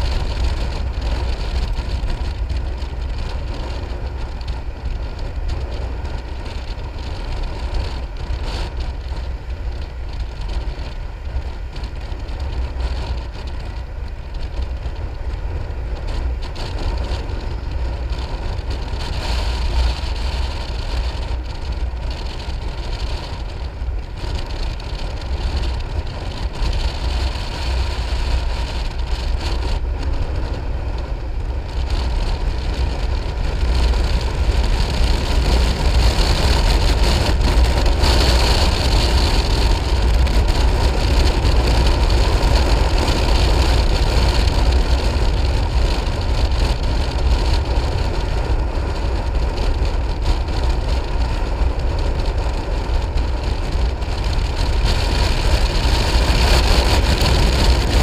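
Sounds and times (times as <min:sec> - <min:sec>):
scooter engine: 0:00.0 - 0:58.0
wind rush on microphone: 0:00.0 - 0:58.0.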